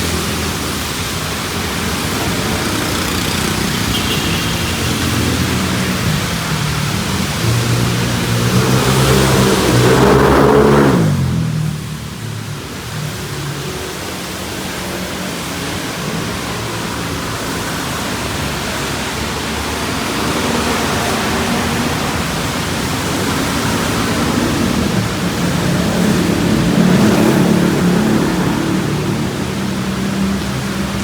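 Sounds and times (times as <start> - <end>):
rain: 0.0 - 31.0
traffic on wet road: 0.0 - 31.0
vehicle engines running low: 0.0 - 31.0
vehicle passing: 0.0 - 31.0.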